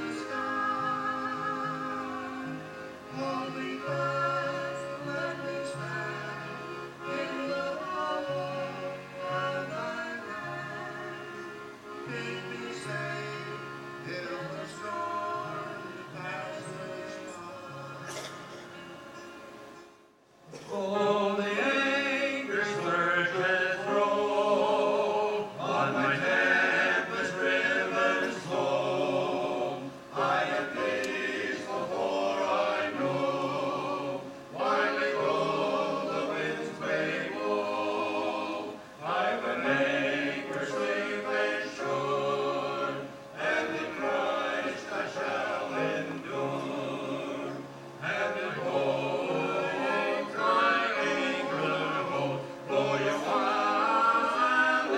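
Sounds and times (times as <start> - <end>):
choir singing gospel in harmony: 0.0 - 19.7, 20.5 - 54.9.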